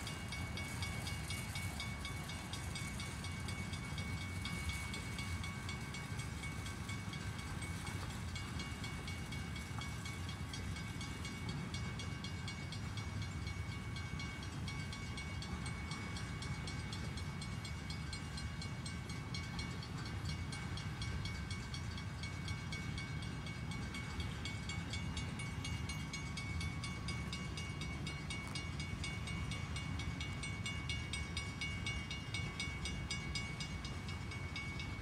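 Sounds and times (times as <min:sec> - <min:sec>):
crossing warning bell ringing: 0:00.0 - 0:35.0
freight train rumbling past: 0:00.0 - 0:35.0.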